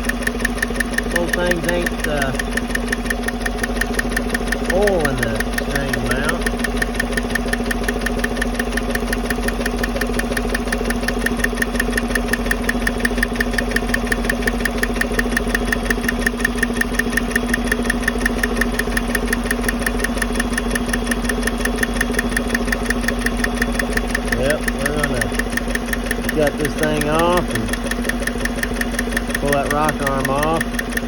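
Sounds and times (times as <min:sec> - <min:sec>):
fast even valvetrain ticking: 0:00.0 - 0:31.0
truck engine idling: 0:00.0 - 0:31.0.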